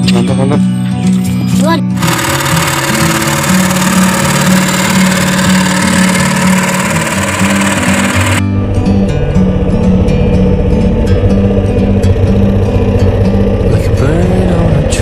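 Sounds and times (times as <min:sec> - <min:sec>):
small boat engine running: 0:01.1 - 0:15.0.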